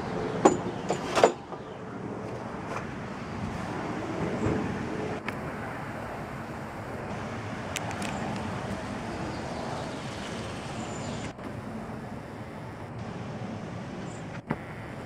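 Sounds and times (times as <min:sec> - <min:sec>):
helicopter passing: 0:01.8 - 0:15.0.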